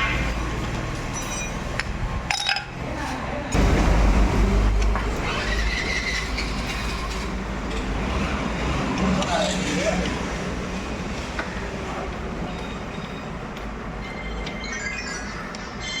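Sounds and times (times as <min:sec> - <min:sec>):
vehicle engine rumble: 0:00.3 - 0:14.0.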